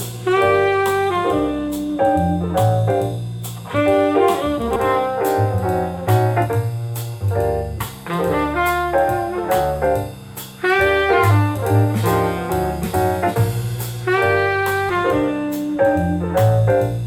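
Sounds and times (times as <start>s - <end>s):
jazz music with horn melody: 0.0s - 17.0s.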